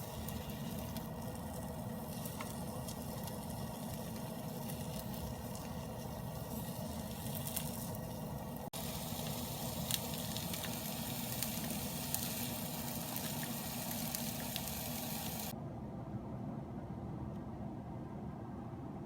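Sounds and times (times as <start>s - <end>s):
food sizzling in a frying pan: 0.0s - 15.5s
spitting oil crackles: 0.0s - 15.6s.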